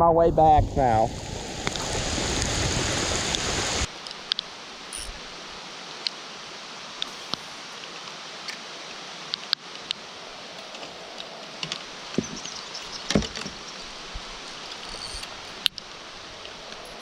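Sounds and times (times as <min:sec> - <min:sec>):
rain hissing on water: 0:00.4 - 0:17.0.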